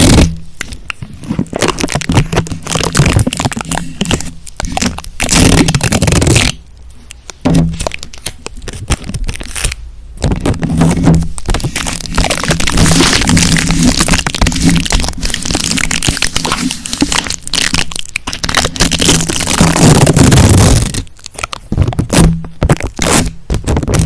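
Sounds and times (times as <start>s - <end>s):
rapid clicks and scrapes: 0.0s - 6.6s, 7.4s - 24.0s.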